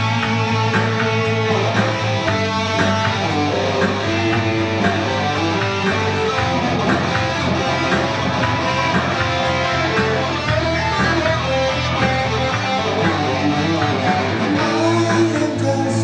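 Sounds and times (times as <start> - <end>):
electric guitar long notes: 0.0 - 16.0
rock band playing: 0.0 - 16.0.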